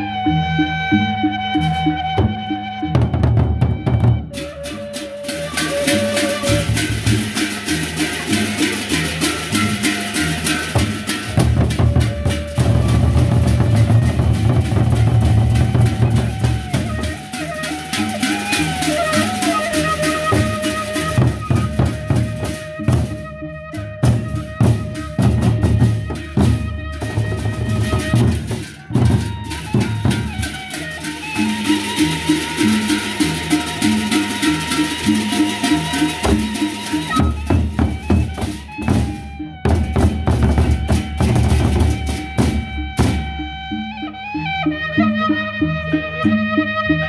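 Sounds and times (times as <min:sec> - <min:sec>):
bamboo flute melody: 0:00.0 - 0:47.0
barrel drums beaten: 0:03.0 - 0:23.2, 0:24.0 - 0:43.4.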